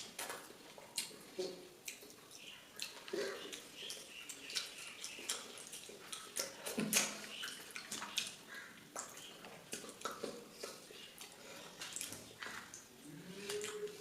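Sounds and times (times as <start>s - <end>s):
wet chewing and smacking: 0.0s - 14.0s.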